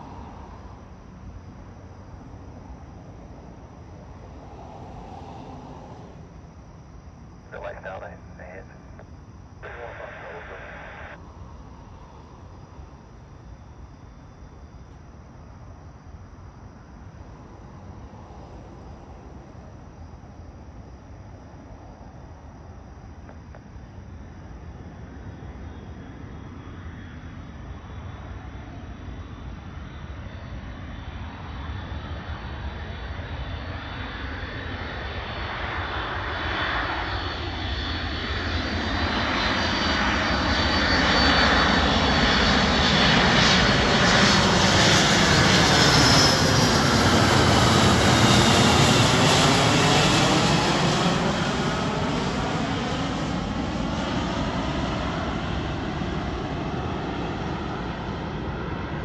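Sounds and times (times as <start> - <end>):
high jet engine whine: 0.0 - 59.0
jet engines roaring overhead: 0.0 - 59.0.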